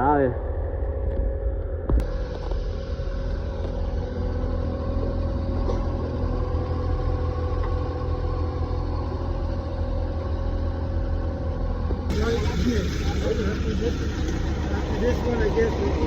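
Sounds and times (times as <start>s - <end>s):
large engine idling: 0.0s - 16.0s.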